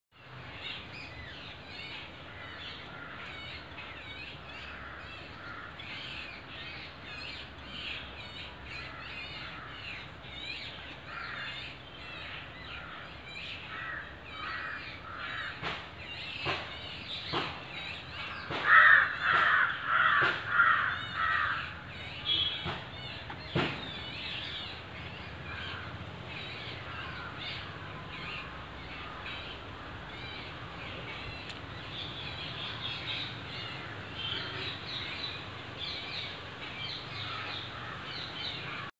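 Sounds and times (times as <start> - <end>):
birds calling: 0.1 - 38.9.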